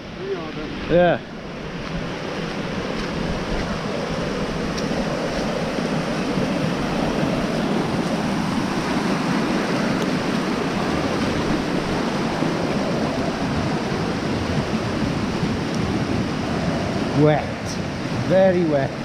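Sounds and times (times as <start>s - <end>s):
stream rushing: 0.0s - 19.0s.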